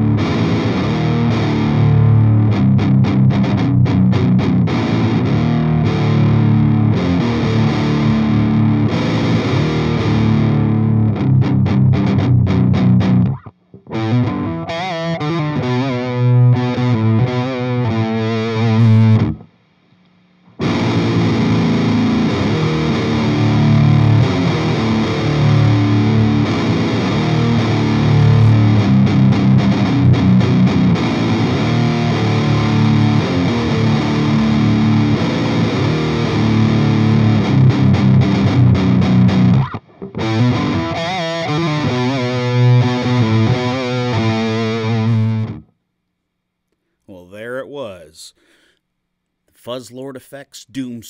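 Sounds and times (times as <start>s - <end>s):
distorted electric guitar: 0.0s - 45.8s.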